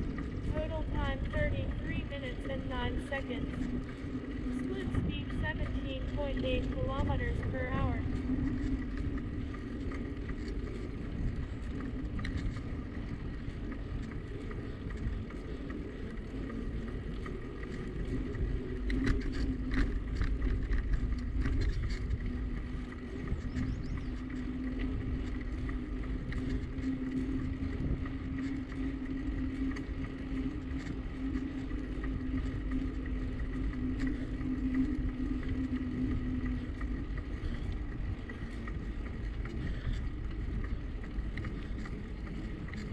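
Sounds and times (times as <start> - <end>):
constant low hum: 0.0 - 42.9
wind and road noise: 0.0 - 42.9.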